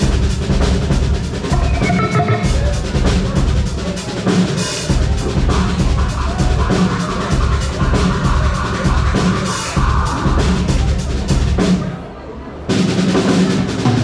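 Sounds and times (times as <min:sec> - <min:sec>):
live metal band playing: 0:00.0 - 0:11.9
pounding drum kit: 0:00.0 - 0:12.1, 0:12.7 - 0:14.0.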